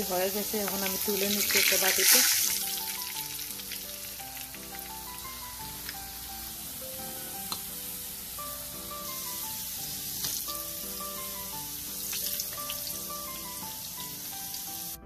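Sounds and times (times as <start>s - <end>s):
oil sizzling in a frying pan: 0.0s - 15.0s
soft background music: 0.0s - 15.0s.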